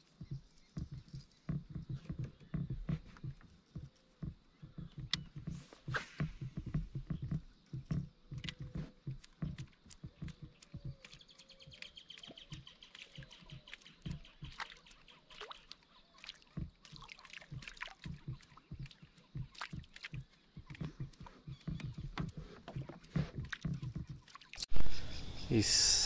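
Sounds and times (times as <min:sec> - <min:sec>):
water lapping against kayak hull: 0:00.0 - 0:24.7
birds calling: 0:00.0 - 0:26.0.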